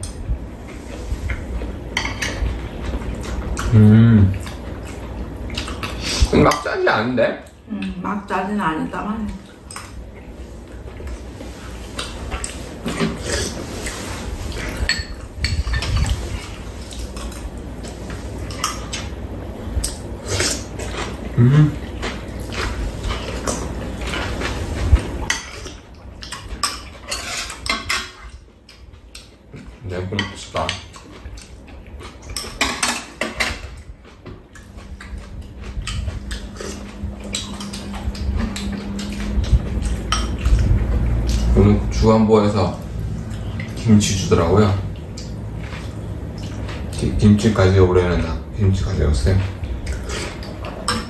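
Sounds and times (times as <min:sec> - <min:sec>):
eating noises: 0:00.0 - 0:06.6, 0:09.3 - 0:27.0, 0:28.2 - 0:47.8, 0:48.8 - 0:51.0
steady low hum: 0:00.0 - 0:51.0.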